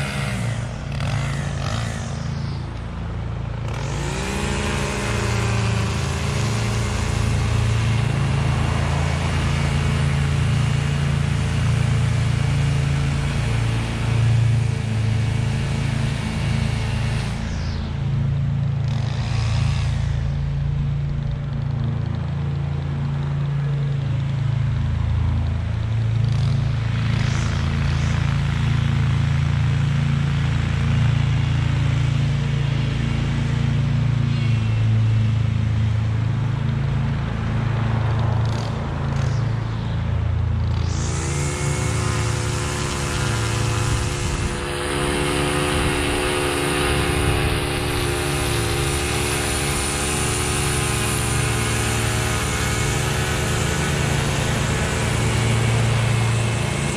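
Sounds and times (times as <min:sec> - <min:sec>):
mower engine running: 0:00.0 - 0:56.9.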